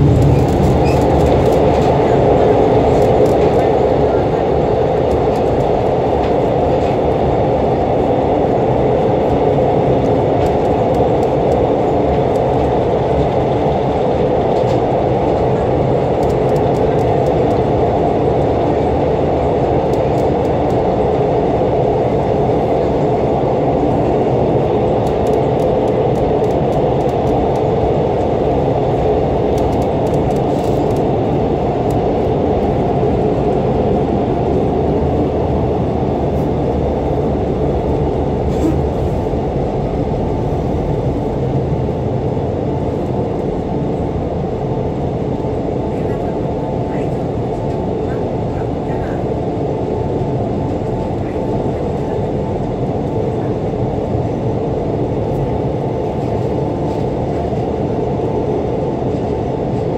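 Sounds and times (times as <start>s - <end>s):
railcar engine and wheels drone: 0.0s - 59.9s.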